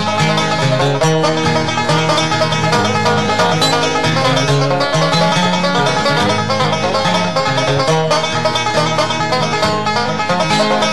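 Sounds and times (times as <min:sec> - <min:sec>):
banjo and guitar picking: 0:00.0 - 0:10.9
walking bass line: 0:00.0 - 0:10.9.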